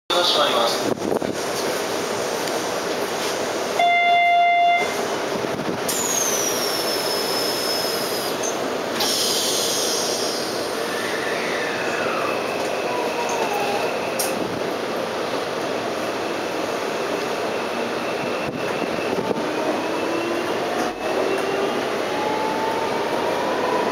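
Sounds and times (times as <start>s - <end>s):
rail running noise: 0.1s - 23.9s.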